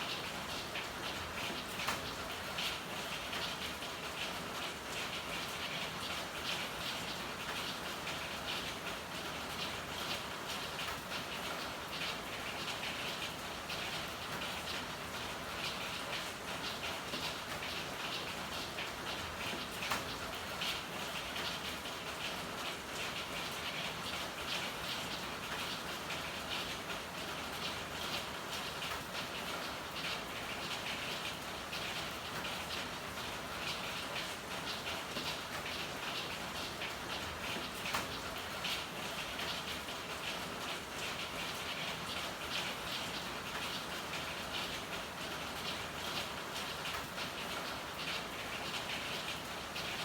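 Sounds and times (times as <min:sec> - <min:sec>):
rain on hard surfaces: 0:00.0 - 0:50.0.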